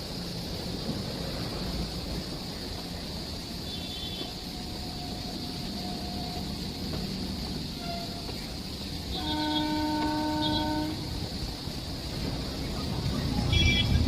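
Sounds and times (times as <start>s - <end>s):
train running rumble and hiss: 0.0s - 14.0s.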